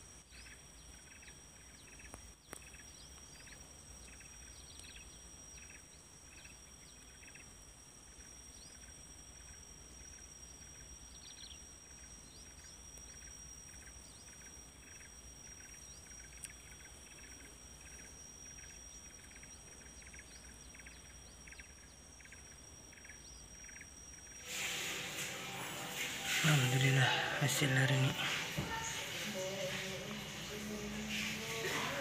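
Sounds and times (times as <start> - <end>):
high insect drone: 0.0 - 32.0
rhythmic insect chirping: 0.0 - 32.0.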